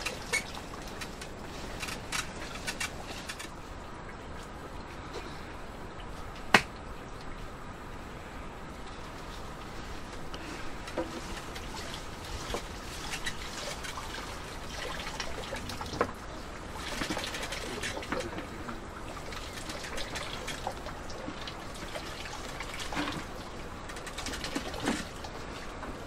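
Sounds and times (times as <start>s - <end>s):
liquid trickling: 0.0s - 26.0s.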